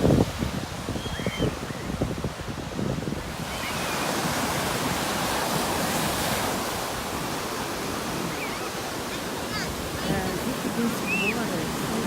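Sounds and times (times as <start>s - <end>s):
ocean surf washing in: 0.0s - 12.0s
wind rumbling on microphone: 0.0s - 12.0s.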